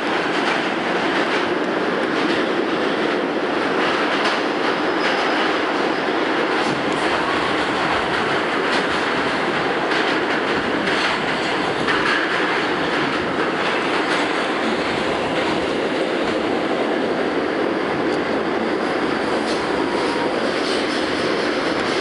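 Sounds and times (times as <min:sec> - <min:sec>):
subway wheels rumbling on rail: 0:00.0 - 0:22.0.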